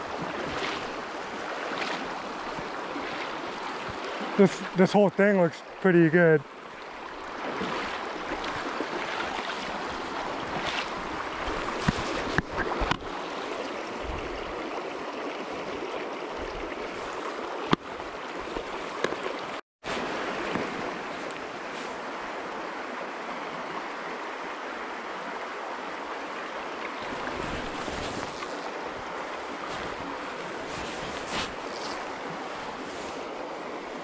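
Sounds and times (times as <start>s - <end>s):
creek flowing over rocks: 0.0s - 34.0s.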